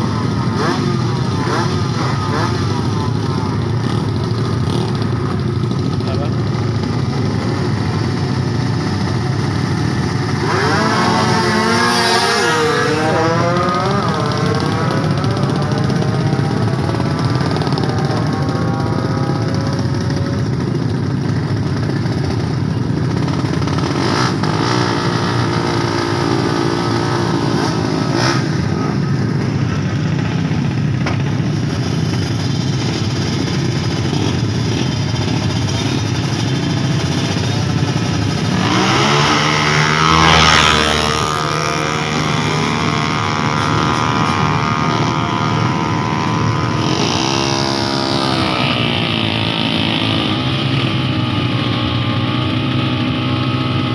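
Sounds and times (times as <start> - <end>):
motorcycle engines revving: 0.0 - 53.9.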